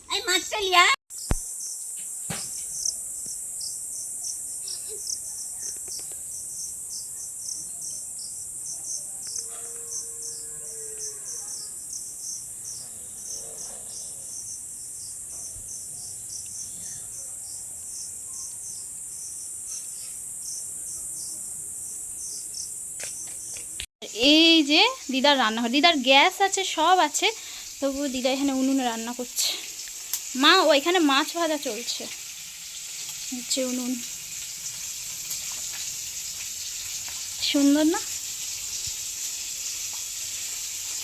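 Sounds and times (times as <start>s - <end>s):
insects chirring: 0.1s - 41.0s.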